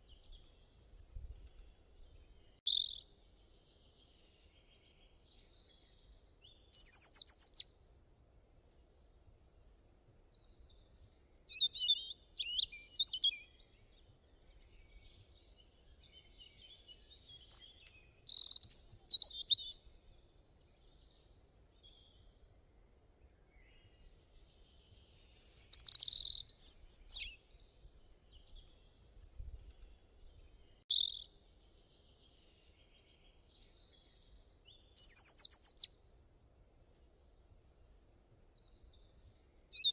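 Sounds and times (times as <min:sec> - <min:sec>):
small birds chirping and trilling: 0:00.0 - 0:07.6, 0:10.1 - 0:22.3, 0:23.4 - 0:35.9, 0:38.2 - 0:39.9.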